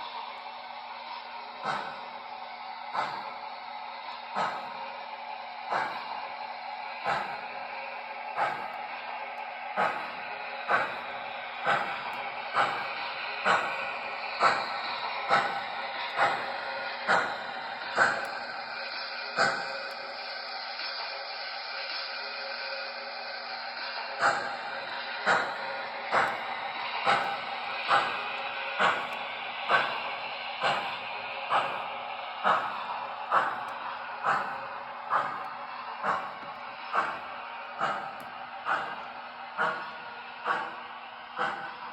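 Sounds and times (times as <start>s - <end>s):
model train running: 0.0s - 41.9s.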